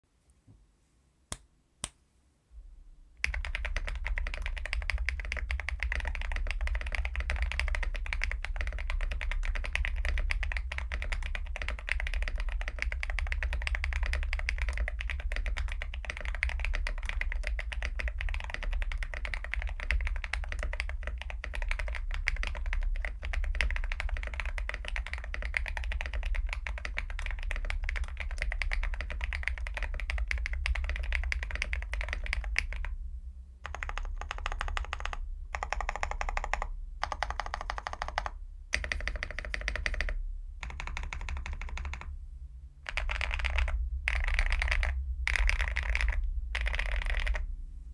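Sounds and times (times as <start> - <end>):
mechanical keyboard typing: 3.2 - 32.9, 33.6 - 42.1, 42.9 - 47.4.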